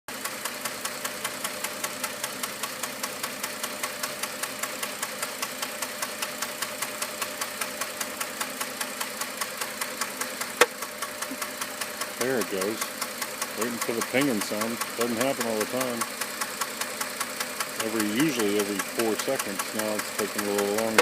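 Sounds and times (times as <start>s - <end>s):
engine idling: 0.1s - 21.0s
sharp engine ticking: 0.1s - 21.0s.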